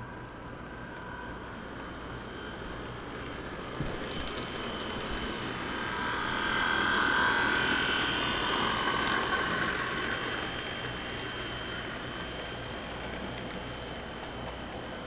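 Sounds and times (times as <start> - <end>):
model train motor whine: 0.0 - 15.0.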